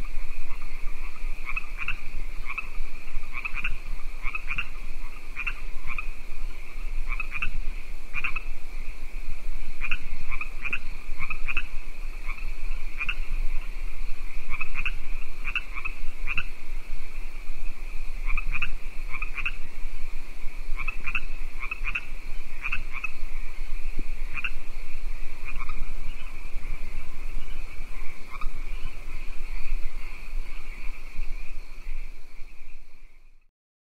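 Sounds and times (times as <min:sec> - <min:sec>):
frogs calling: 0:00.0 - 0:33.4.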